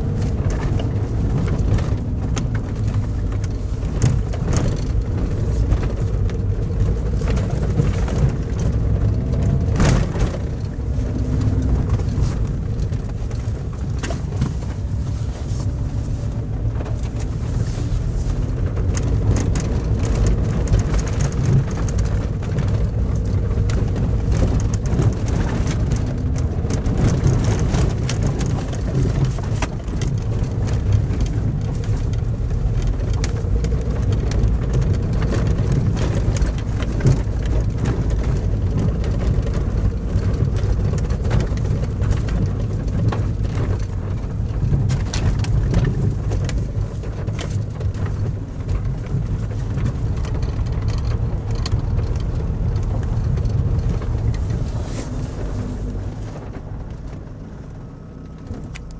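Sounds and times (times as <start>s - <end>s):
car engine humming: 0.0s - 58.9s
tyres crunching over gravel: 0.0s - 58.9s.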